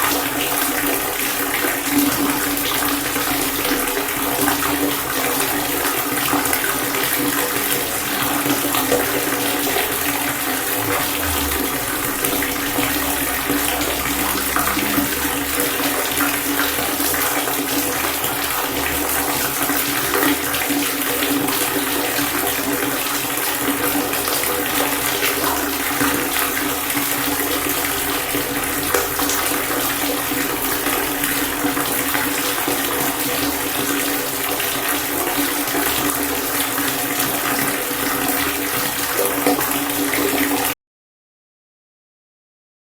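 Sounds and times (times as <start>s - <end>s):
water pouring: 0.0s - 40.5s.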